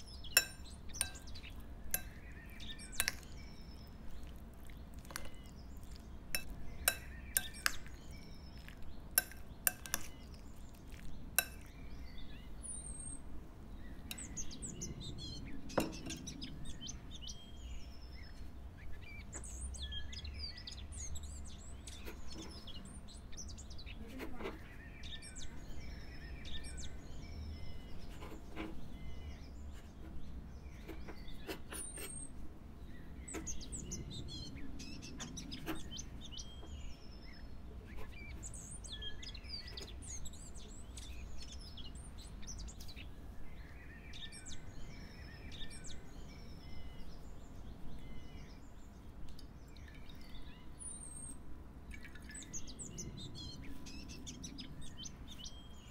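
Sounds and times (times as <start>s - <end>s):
small birds chirping and singing: 0.0s - 55.9s.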